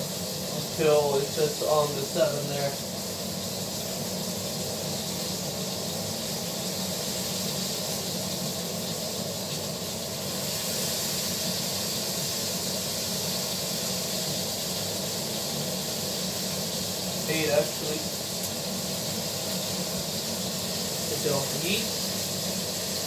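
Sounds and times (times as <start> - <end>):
steak sizzling in a pan: 0.0 - 23.0.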